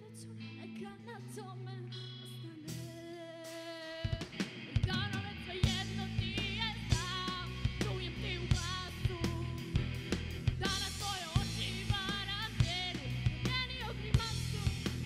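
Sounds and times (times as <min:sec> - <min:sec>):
electric guitar: 0:00.0 - 0:15.0
girl singing pop-rock ballad: 0:00.0 - 0:15.0
drum kit: 0:02.7 - 0:15.0.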